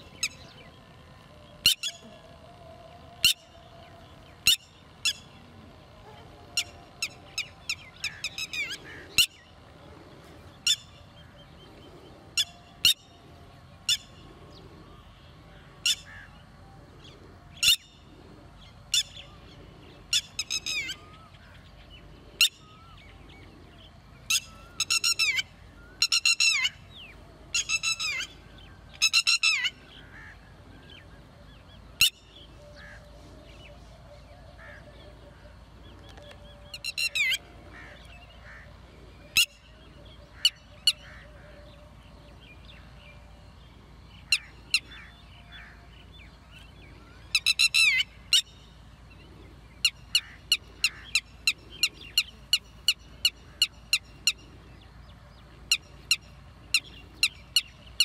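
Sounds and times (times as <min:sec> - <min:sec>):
lapwing calling: 0:00.0 - 0:58.0.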